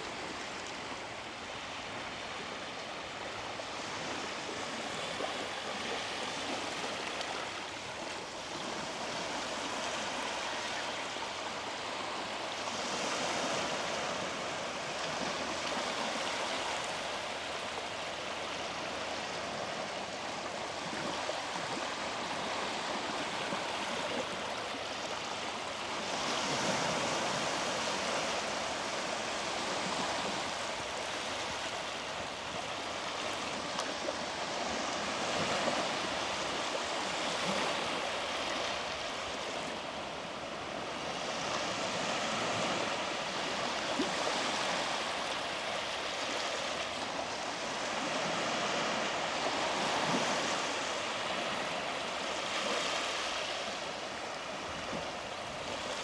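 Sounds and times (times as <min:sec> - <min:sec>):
sea waves breaking on beach: 0:03.4 - 0:56.0.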